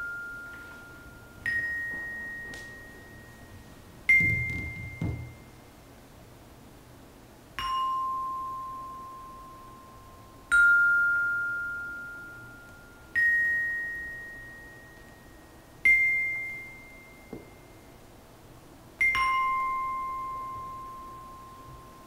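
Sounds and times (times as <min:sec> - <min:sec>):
metallophone notes ringing: 0:00.0 - 0:05.7, 0:07.6 - 0:18.0, 0:19.0 - 0:22.0.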